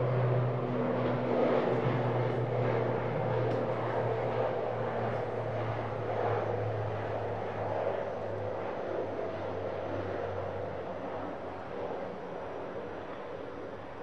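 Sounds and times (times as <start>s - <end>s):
engine and air rush: 0.0s - 11.8s
propeller hum: 0.0s - 14.0s.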